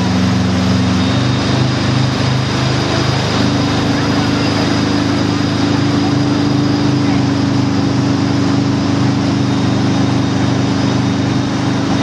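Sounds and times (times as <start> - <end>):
boat engine running: 0.0 - 12.0
rushing wake water: 0.0 - 12.0.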